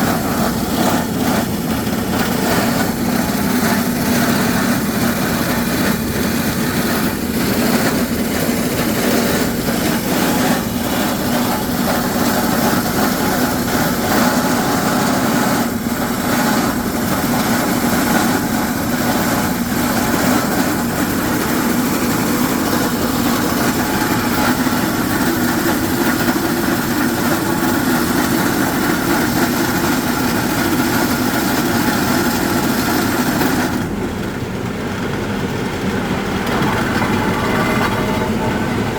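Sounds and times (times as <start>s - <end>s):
rock drill rig engine: 0.0s - 38.9s.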